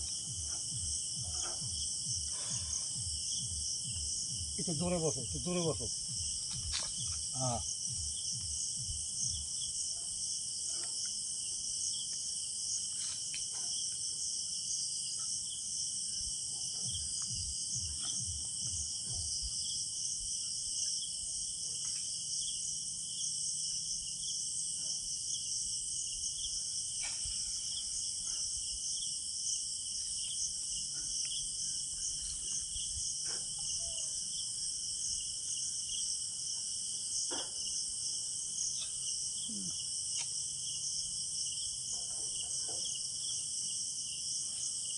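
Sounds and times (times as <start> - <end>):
night insects chorus: 0.0 - 44.9.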